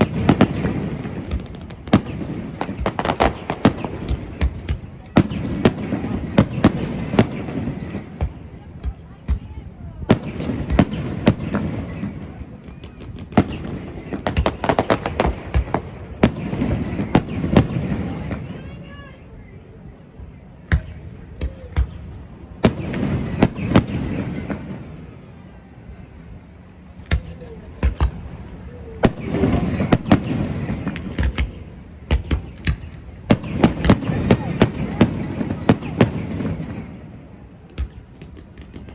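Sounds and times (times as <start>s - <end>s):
fireworks bangs: 0.0s - 19.3s, 20.3s - 38.9s
fireworks crackling: 0.0s - 38.9s.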